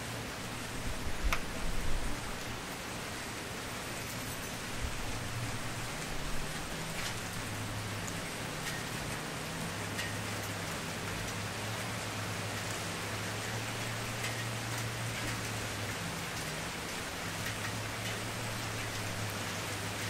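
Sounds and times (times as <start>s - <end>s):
campfire crackling: 0.2s - 19.9s.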